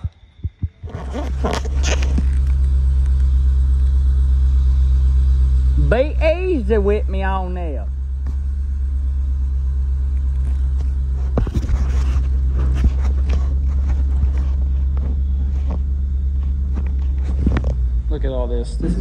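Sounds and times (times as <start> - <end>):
box truck rumbling: 0.0 - 19.0.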